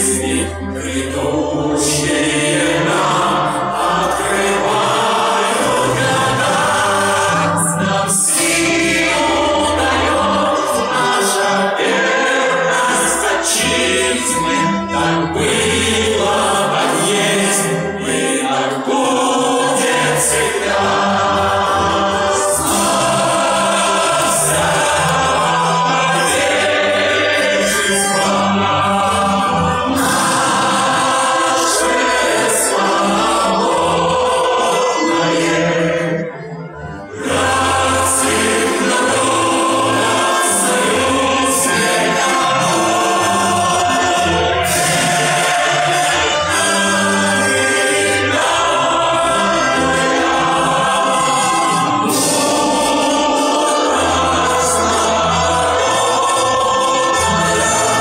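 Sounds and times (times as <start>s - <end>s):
choir singing held notes: 0.0s - 58.0s.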